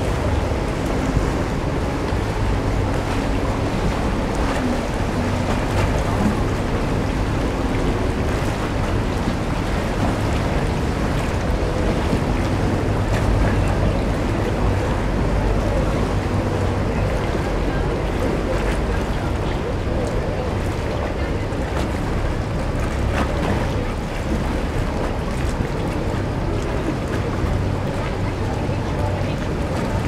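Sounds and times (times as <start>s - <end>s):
boat engines humming: 0.0s - 30.0s
rushing churned water: 0.0s - 30.0s.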